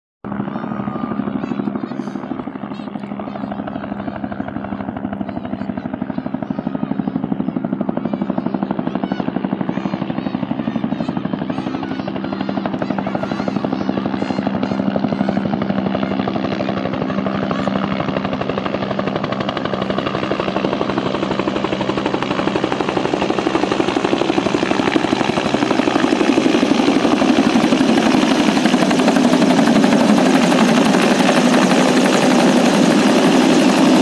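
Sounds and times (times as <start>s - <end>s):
helicopter engine hum: 0.2s - 34.0s
helicopter rotor beating: 0.3s - 34.0s.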